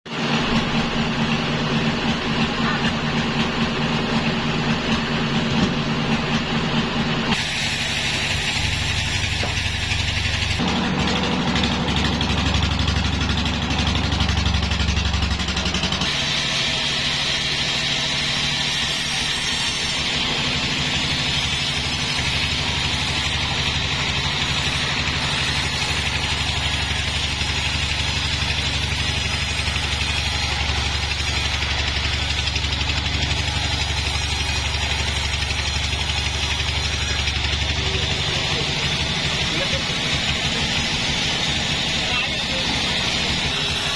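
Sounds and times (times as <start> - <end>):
engine running: 0.1 - 43.9.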